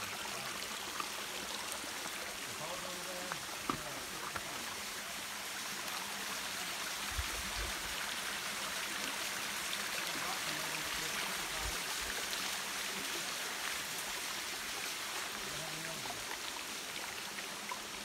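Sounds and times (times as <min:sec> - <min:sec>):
stream splashing over stones: 0:00.0 - 0:18.0.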